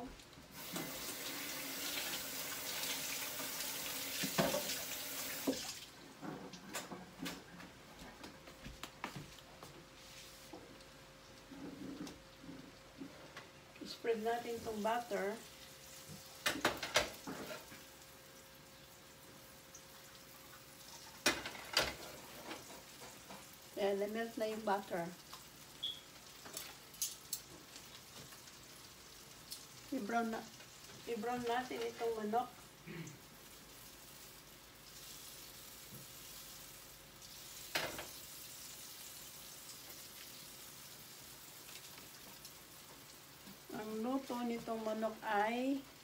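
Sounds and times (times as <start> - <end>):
butter sizzling in a pan: 0.5 - 5.6, 14.0 - 46.0.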